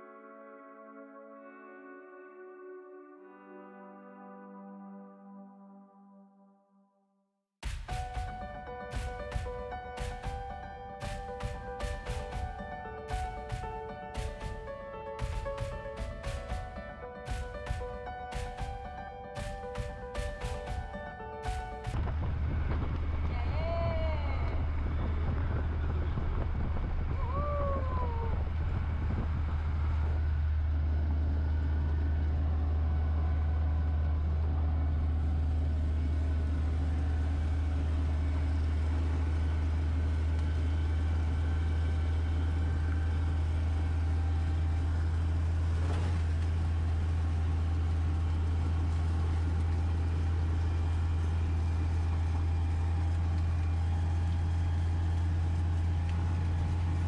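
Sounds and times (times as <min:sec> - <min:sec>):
vehicle engine and road noise: 0:07.7 - 0:57.0.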